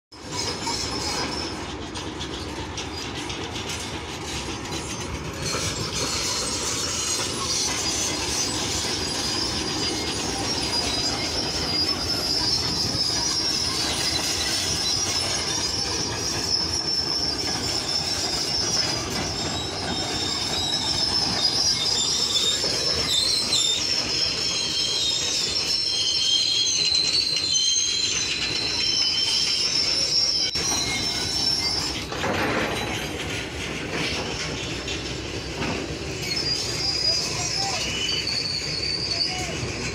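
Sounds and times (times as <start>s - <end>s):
train running on rails: 0.1s - 39.9s
wheel squeal: 0.1s - 39.9s.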